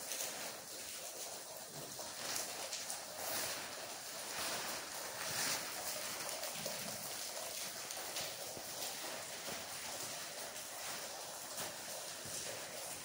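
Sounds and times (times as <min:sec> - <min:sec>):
steady hiss: 0:00.0 - 0:13.0
footsteps walking: 0:00.8 - 0:13.0.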